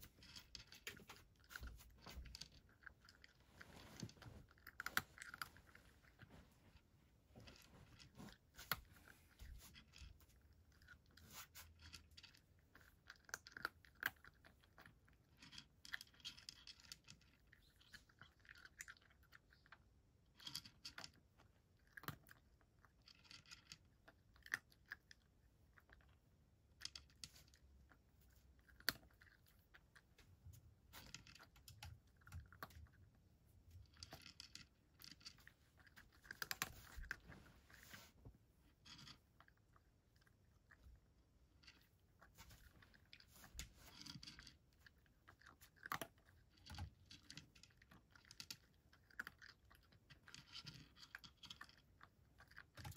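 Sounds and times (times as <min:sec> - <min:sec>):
cat crunching dry kibble: 0:00.0 - 0:52.9.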